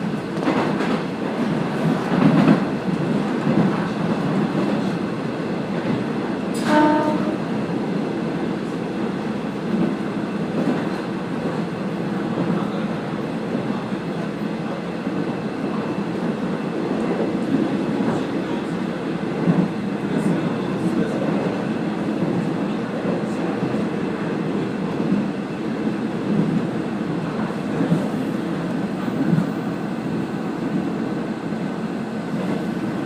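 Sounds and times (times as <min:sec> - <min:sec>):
train wheels rumbling: 0:00.0 - 0:33.0.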